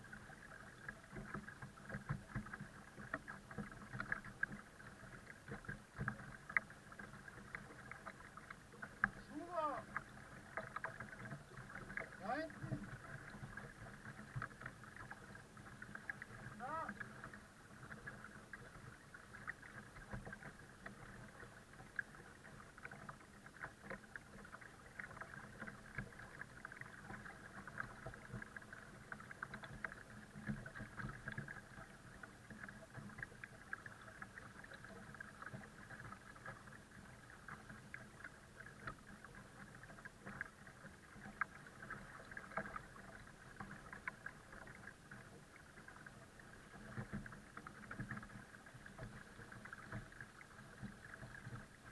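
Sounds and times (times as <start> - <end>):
small splashes and drips: 0.0 - 51.9
water lapping along a hull: 0.0 - 51.9.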